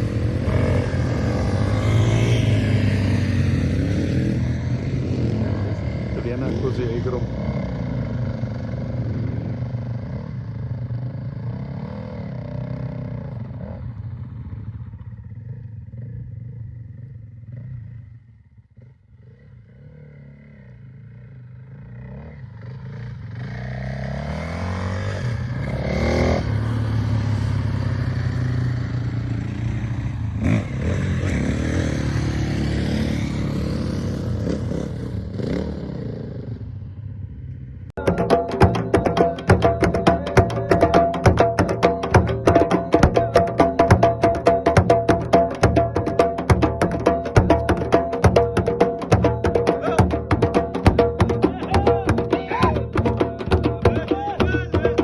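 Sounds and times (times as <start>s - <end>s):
motocross bike engines revving: 0.0s - 47.4s.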